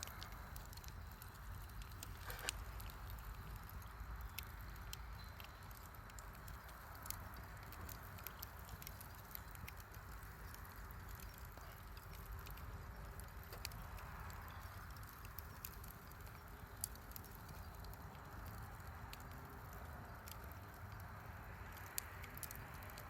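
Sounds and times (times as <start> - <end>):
bonfire snaps and pops: 0.0 - 23.0
steady hiss: 0.0 - 23.0.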